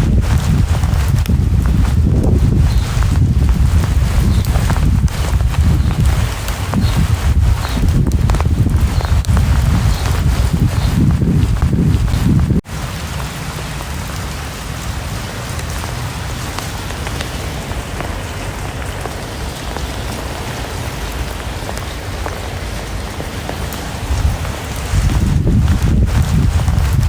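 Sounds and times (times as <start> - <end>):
sharp raindrop ticks: 0.0 - 27.0
steady rain falling: 0.0 - 27.0.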